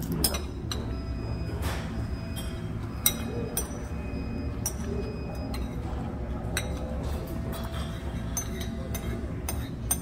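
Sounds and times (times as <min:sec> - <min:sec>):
spoon clinking against ceramic bowl: 0:00.0 - 0:01.1, 0:02.2 - 0:10.0.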